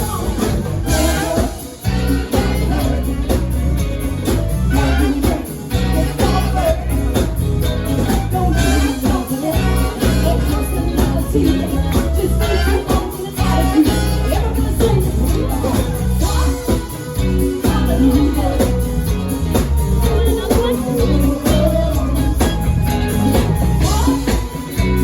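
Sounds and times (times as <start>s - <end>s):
pop song with singing: 0.0s - 25.0s.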